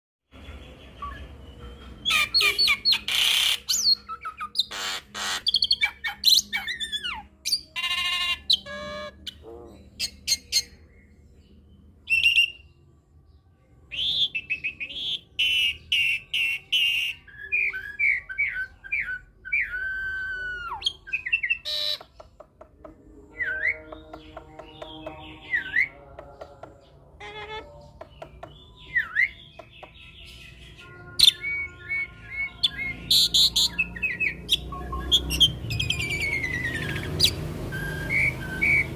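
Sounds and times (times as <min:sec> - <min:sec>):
starling singing varied song: 0:00.5 - 0:12.8, 0:13.7 - 0:38.9.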